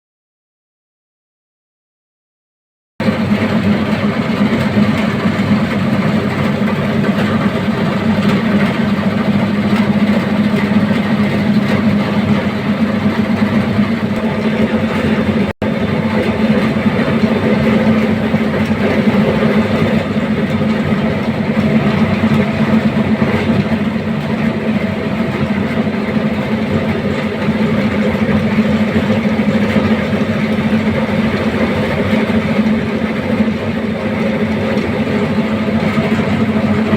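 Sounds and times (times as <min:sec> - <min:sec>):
air handling unit motor humming: 0:03.0 - 0:36.9.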